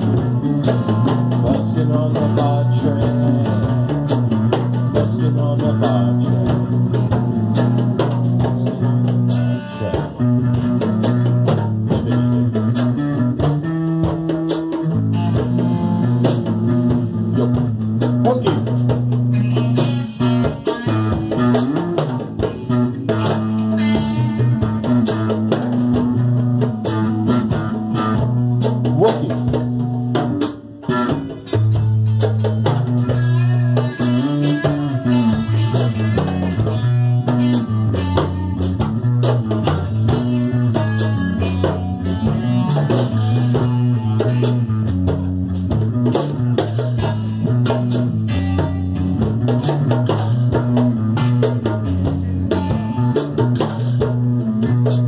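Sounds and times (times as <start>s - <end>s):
djembe hand drumming: 0.0s - 55.0s
guitar playing chords: 0.0s - 55.0s.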